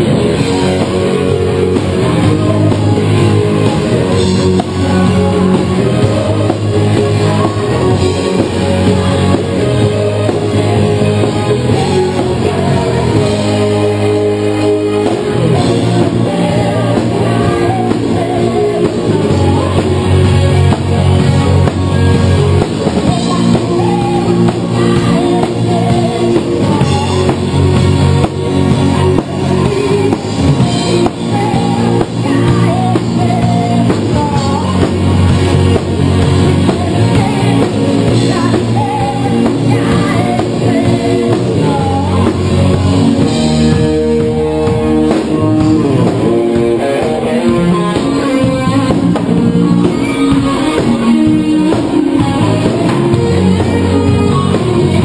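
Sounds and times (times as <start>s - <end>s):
drum kit: 0.0s - 55.0s
electric guitar: 0.0s - 55.0s
lead singer: 0.0s - 55.0s.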